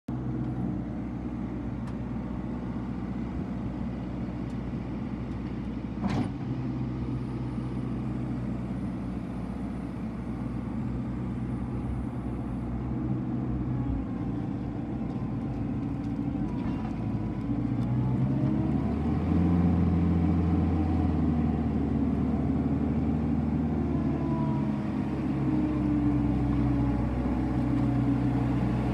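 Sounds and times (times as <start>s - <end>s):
diesel engine running: 0.1s - 28.9s.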